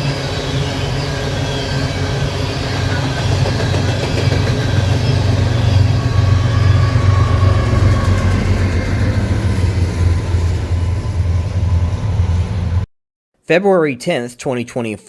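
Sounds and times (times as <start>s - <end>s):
diesel locomotive engine drone: 0.0s - 12.9s
freight train rumble: 0.0s - 12.9s.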